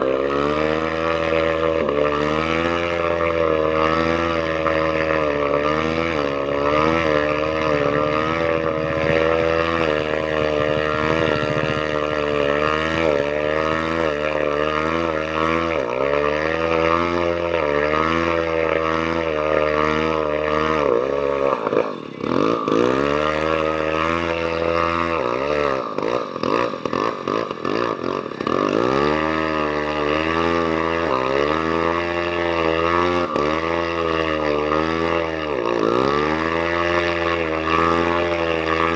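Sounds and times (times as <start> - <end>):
engine running unevenly: 0.0 - 38.9.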